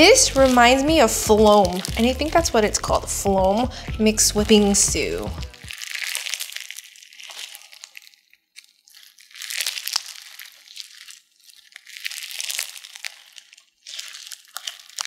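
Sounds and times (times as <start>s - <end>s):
slime crunching and crackling: 0.0s - 3.8s, 4.4s - 15.0s.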